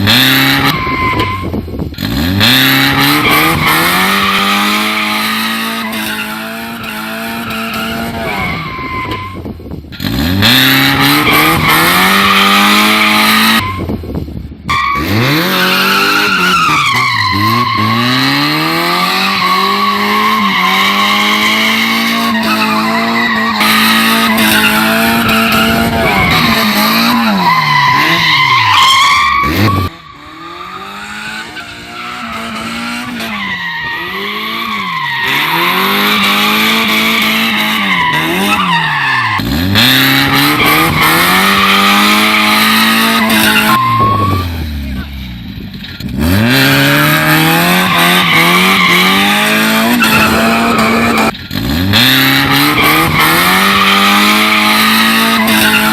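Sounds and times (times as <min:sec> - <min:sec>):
race car engine revving: 0:00.0 - 0:08.8, 0:09.9 - 0:13.9, 0:14.9 - 0:55.9
tire screech skids: 0:00.0 - 0:55.9.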